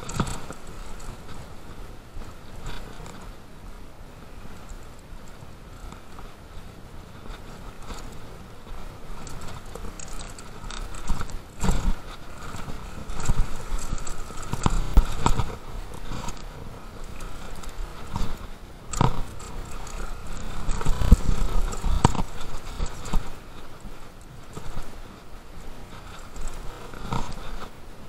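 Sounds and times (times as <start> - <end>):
mountain bike rattling and knocking: 0.0 - 3.2, 7.2 - 24.9, 25.8 - 27.6
wind and tyre noise: 0.0 - 28.0.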